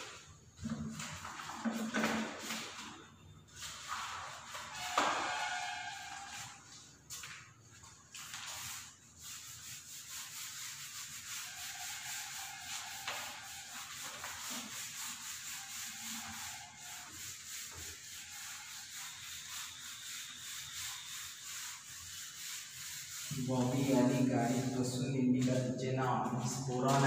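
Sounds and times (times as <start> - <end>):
eraser rubbing on whiteboard: 3.6 - 6.8, 8.4 - 27.0.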